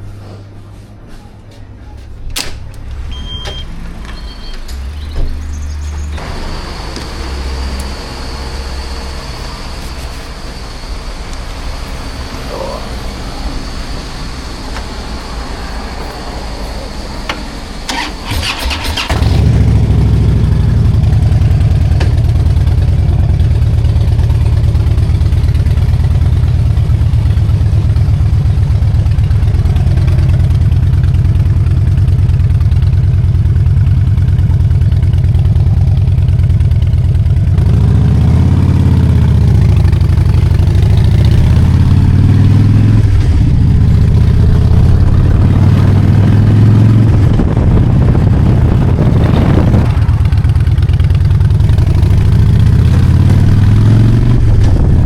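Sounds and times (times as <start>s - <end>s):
motorcycle engine idling: 2.9s - 53.8s
engine revving: 2.9s - 55.0s.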